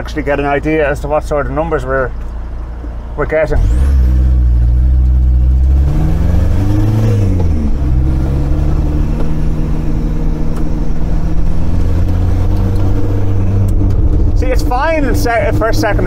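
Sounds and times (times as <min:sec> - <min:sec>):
diesel engine accelerating: 0:00.0 - 0:16.0.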